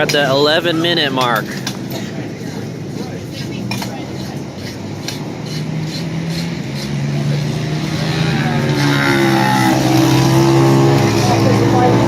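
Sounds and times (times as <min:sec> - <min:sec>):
motorcycle engine running: 0:01.4 - 0:12.0.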